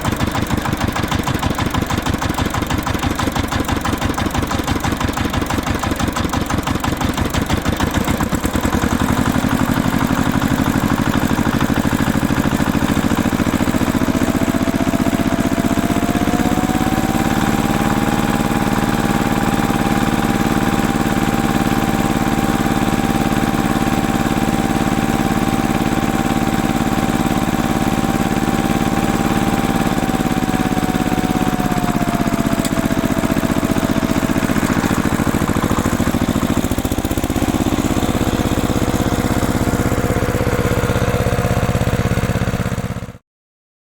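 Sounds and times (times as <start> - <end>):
lawn tractor engine whining: 0.0 - 43.2.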